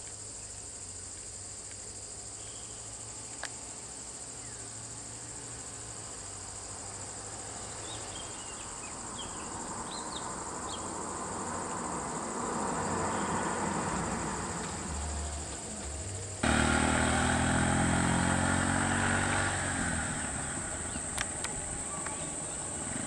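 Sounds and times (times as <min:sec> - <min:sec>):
insects droning: 0:00.0 - 0:23.0
minibus engine and tyres: 0:00.0 - 0:23.0.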